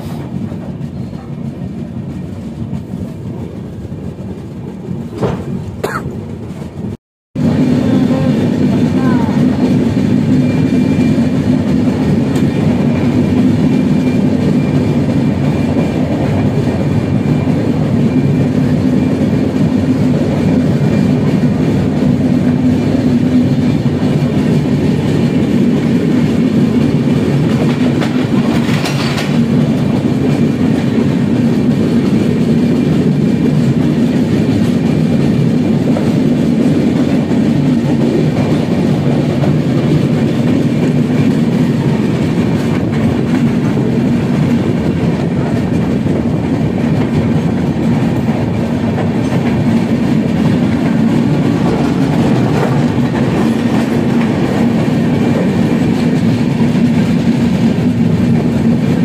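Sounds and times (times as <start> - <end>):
train coaches rumbling past: 0.0 - 59.0
wheels clacking on rails: 0.0 - 59.0.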